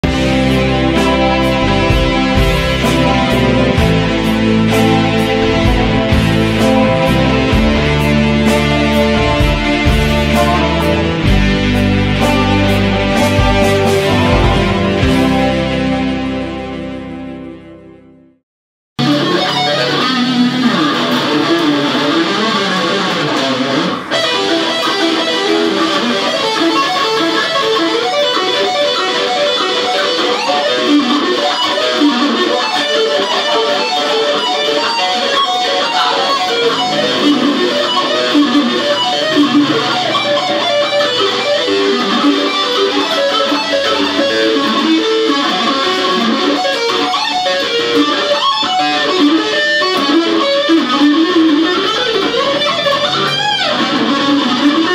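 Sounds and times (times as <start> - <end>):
electric guitar lead lines: 0.0 - 18.4, 19.0 - 54.9.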